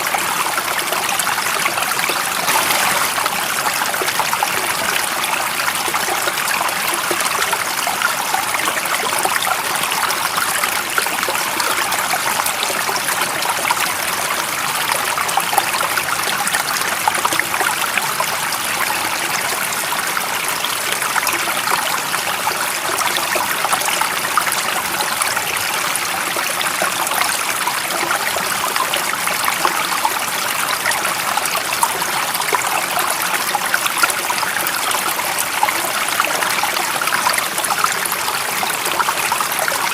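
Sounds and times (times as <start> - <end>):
stream water splashing: 0.0 - 39.9.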